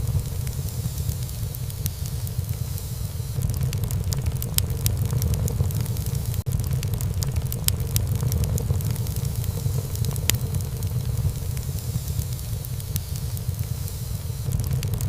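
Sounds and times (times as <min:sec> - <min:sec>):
fire crackles and pops: 0:00.0 - 0:15.0
wood fire burning: 0:00.0 - 0:15.0.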